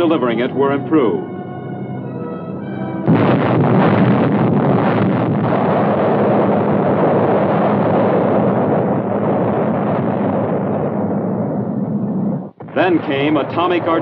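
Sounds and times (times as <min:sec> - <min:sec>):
explosion roar: 0:00.0 - 0:14.0.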